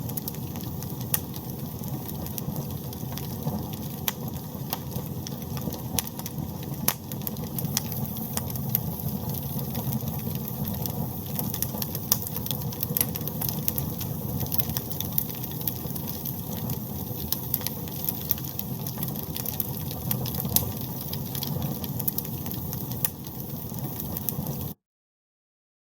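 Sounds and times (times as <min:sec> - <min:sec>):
fire rumbling: 0:00.0 - 0:24.7
fire crackling and popping: 0:00.0 - 0:24.8.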